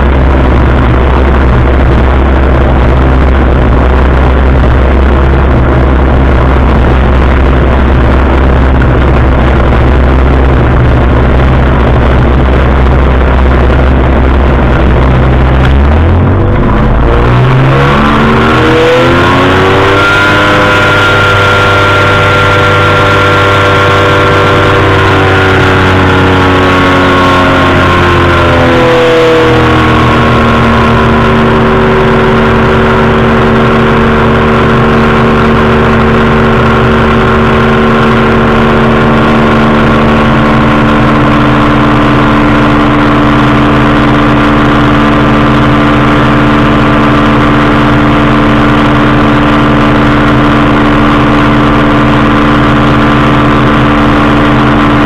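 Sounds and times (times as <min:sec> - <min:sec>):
engine and propeller running: 0:00.0 - 0:55.0.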